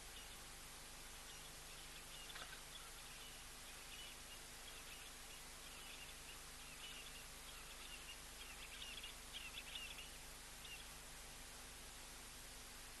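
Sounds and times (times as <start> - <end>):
faint bird chirping: 0.0 - 11.1
steady background hiss: 0.0 - 13.0.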